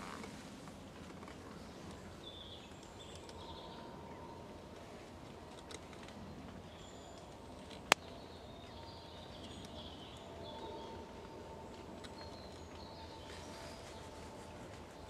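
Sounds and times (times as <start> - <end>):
birdsong chirping: 1.5 - 15.0.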